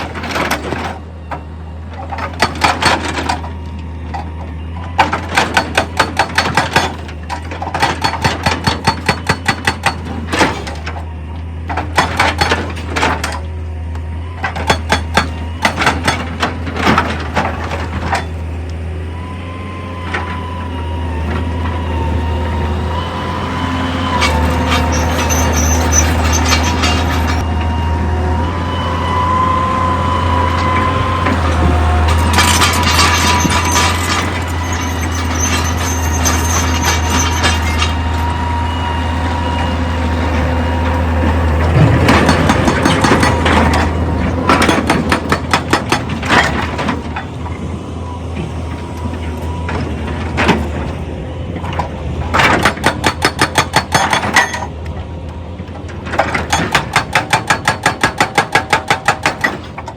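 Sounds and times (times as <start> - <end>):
diesel machinery droning: 0.0 - 59.9.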